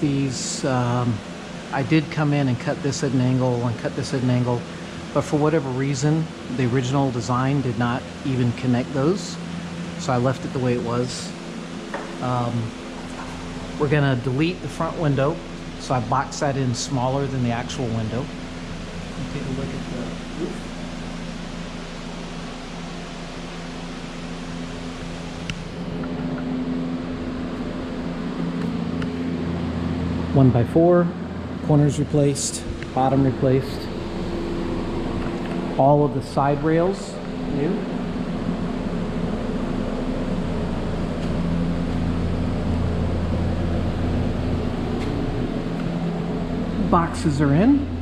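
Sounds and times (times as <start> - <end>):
fan-like rushing noise: 0.0 - 48.0
low steady tones: 0.0 - 48.0
machine humming: 0.0 - 48.0.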